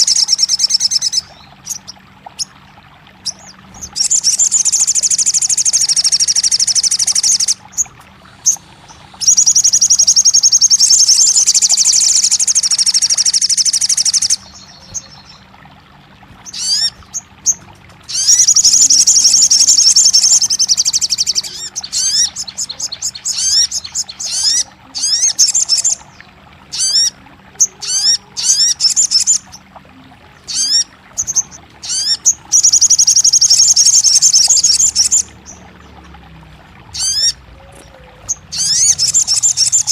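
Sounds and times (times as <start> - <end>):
high rapid bird trills: 0.0 - 2.5, 3.1 - 15.5, 16.3 - 29.6, 30.5 - 36.0, 36.9 - 39.9.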